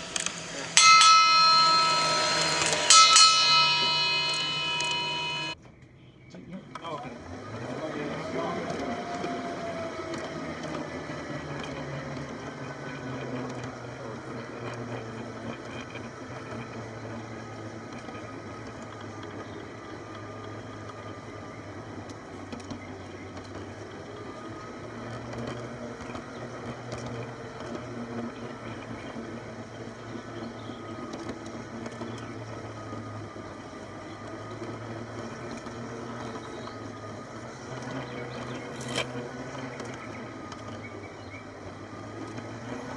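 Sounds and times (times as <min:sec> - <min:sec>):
small electric motor whining: 0:00.0 - 0:05.6, 0:06.9 - 0:42.9
wheels rolling on track: 0:00.0 - 0:42.9.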